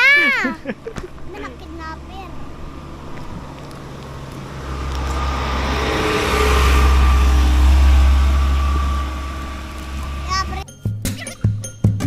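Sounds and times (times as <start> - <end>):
road vehicle passing: 0.0 - 10.6
heavy low rumble: 0.6 - 10.6.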